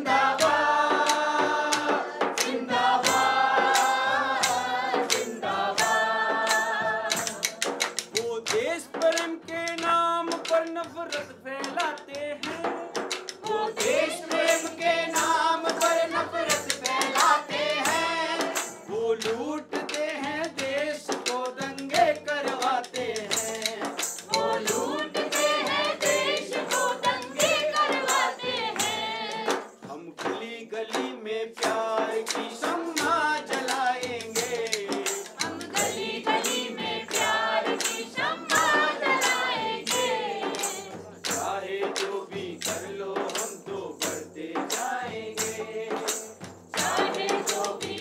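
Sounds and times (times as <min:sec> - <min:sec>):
group singing: 0:00.0 - 0:09.3, 0:11.6 - 0:48.0
shaker: 0:00.0 - 0:10.6, 0:11.6 - 0:30.5, 0:31.8 - 0:48.0
hand claps: 0:00.0 - 0:48.0.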